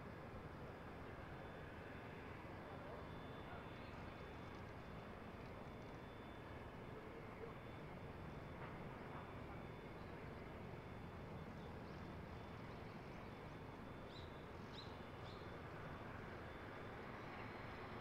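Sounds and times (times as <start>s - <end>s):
high engine whine: 0.0s - 18.0s
jet engines rumbling at taxi power: 0.0s - 18.0s.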